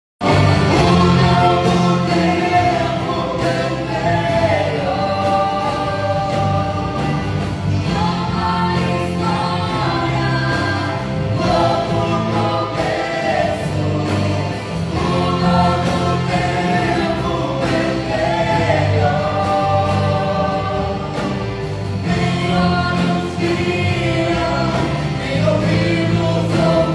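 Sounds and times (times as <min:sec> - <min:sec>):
choir singing gospel song: 0:00.2 - 0:26.9.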